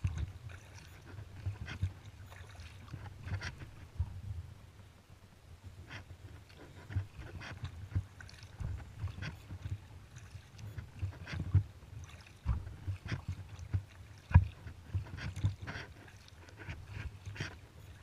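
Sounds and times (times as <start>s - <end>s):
paddle splashing in water: 0.0s - 4.2s, 5.9s - 18.0s.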